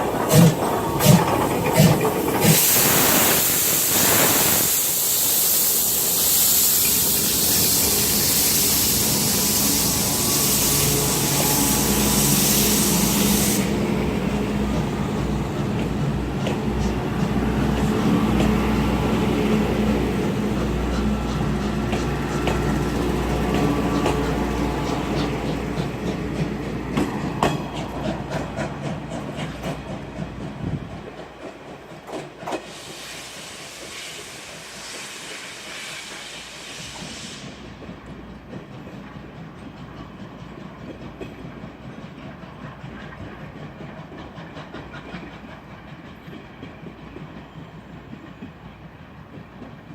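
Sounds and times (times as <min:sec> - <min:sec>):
train wheels clacking over rail joints: 0:00.0 - 0:04.5, 0:06.2 - 0:34.0, 0:36.2 - 0:49.9
steam train running: 0:00.0 - 0:49.9.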